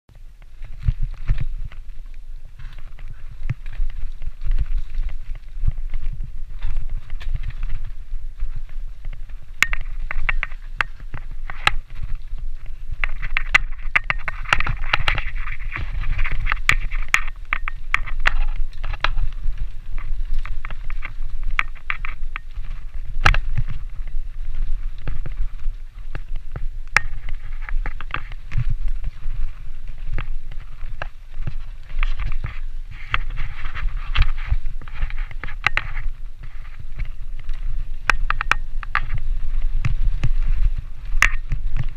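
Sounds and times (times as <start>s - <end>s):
bike knocking and rattling: 0.1s - 41.9s
wind rumble on microphone: 0.1s - 41.9s
tyres crunching over leaves: 0.2s - 41.9s.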